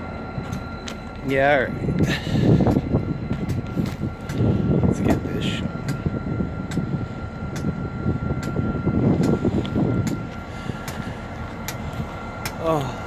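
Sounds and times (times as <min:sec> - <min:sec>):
faint high whine: 0:00.0 - 0:13.0
wind rumbling on microphone: 0:01.6 - 0:13.0.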